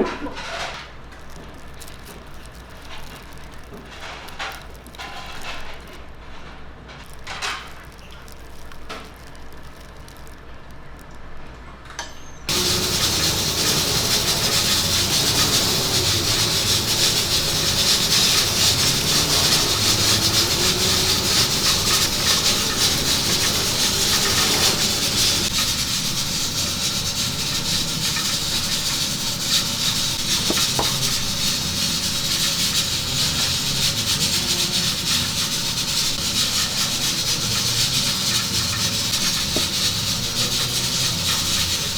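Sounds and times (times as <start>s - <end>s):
food sizzling: 1.0s - 6.0s, 12.5s - 41.9s.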